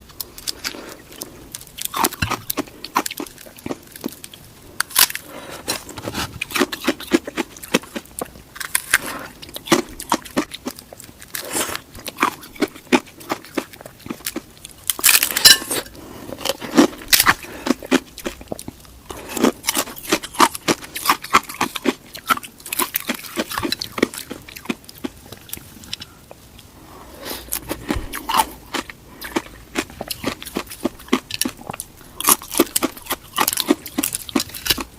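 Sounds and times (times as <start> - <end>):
ice being chewed: 0.1 - 26.2, 27.2 - 34.9.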